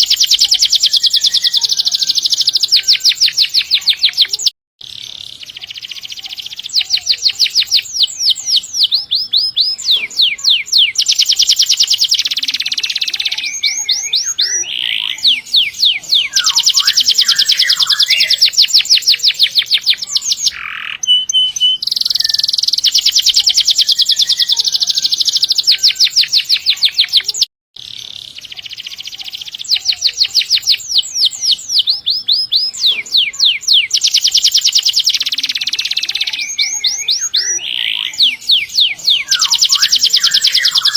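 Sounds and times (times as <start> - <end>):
canary singing rolling trills: 0.0 - 40.9.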